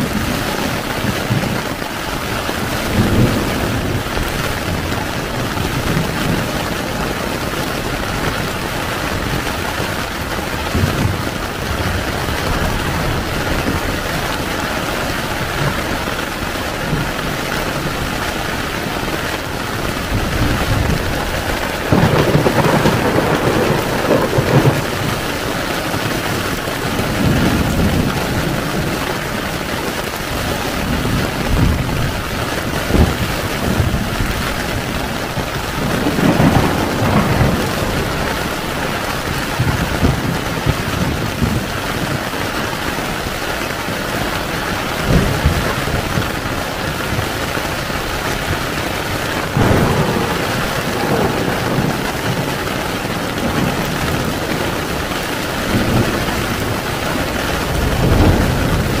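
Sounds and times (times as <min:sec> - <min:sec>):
heavy rain on a tent: 0:00.0 - 0:59.0
thunder rumbling: 0:00.0 - 0:59.0.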